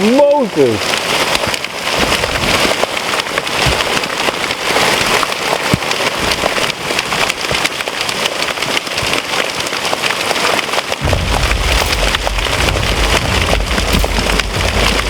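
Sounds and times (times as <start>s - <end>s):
hailstones ticking and cracking: 0.0s - 15.0s
heavy hail hissing: 0.0s - 15.0s.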